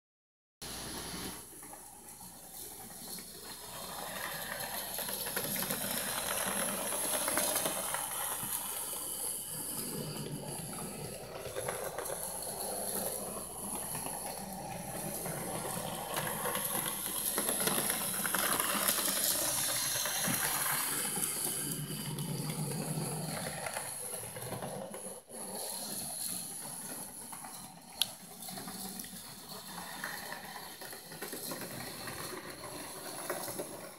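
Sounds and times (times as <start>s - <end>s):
model train motor and wheels: 0.6s - 33.9s.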